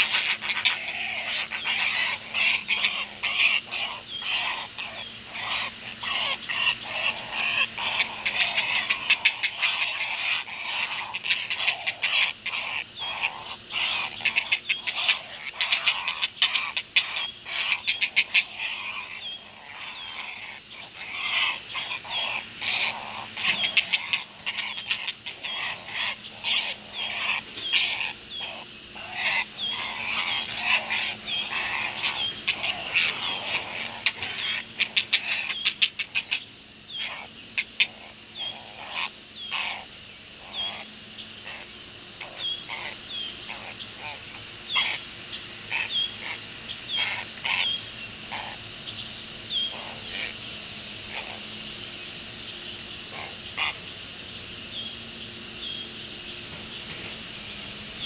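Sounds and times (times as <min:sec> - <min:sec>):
heron nestlings begging calls: 0:00.0 - 0:45.0, 0:45.6 - 0:51.6, 0:53.0 - 0:53.8.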